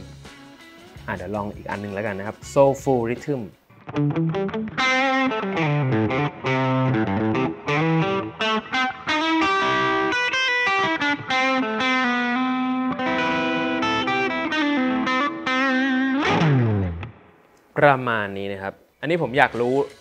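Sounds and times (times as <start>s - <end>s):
electric guitar chords and riffs: 0.0s - 2.8s, 3.7s - 17.6s.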